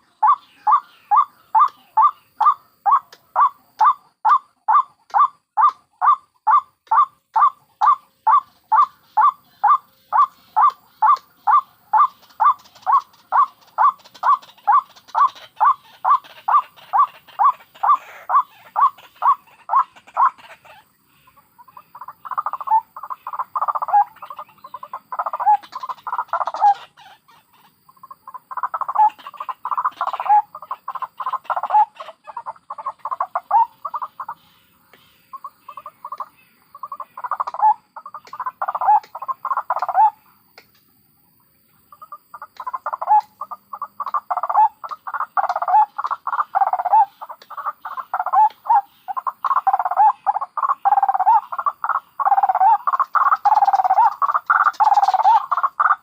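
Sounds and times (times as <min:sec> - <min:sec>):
waterhens calling: 0:00.0 - 0:40.3, 0:41.9 - 0:56.0.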